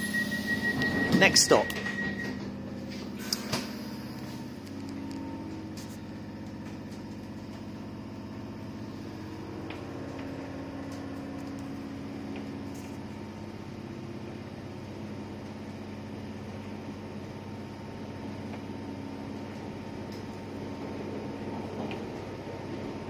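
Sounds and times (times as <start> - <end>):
train carriage hum and drone: 0.0 - 23.0.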